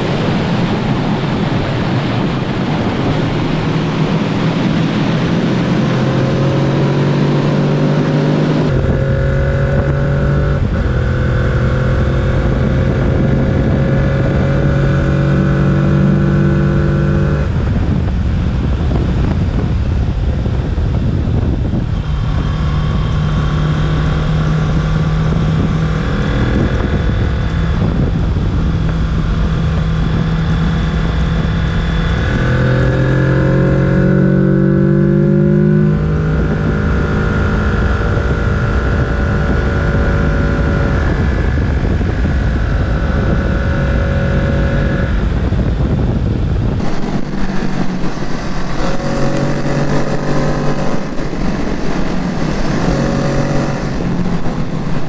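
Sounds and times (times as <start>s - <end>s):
wind on microphone: 0.0s - 55.0s
motorcycle engine running: 2.7s - 55.0s.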